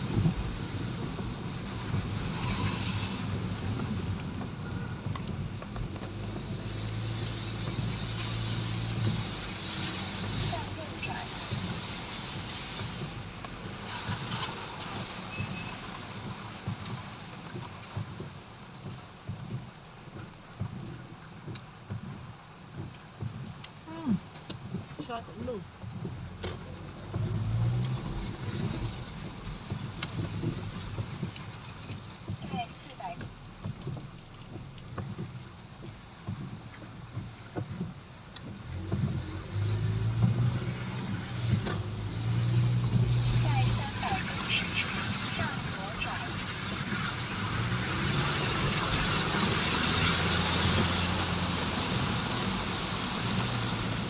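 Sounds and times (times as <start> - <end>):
vehicle road noise: 0.0 - 54.0.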